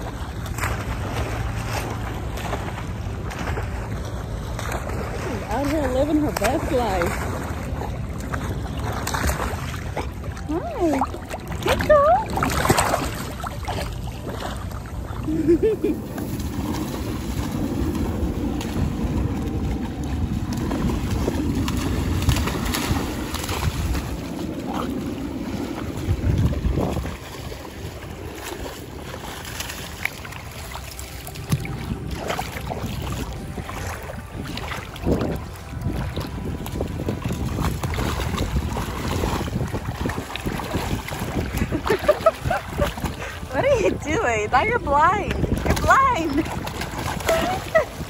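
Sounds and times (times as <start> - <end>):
dog splashing through water: 0.0 - 48.0
wind on microphone: 0.0 - 48.0.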